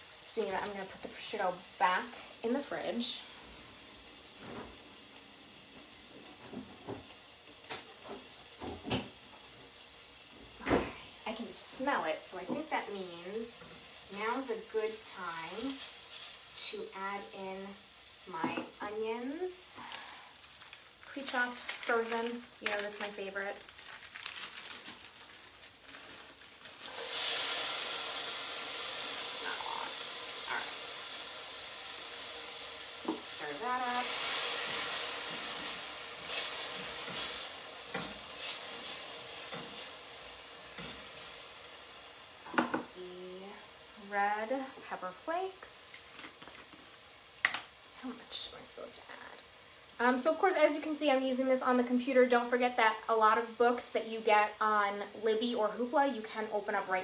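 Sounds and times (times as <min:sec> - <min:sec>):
food sizzling in frying pan: 0:00.0 - 0:57.0.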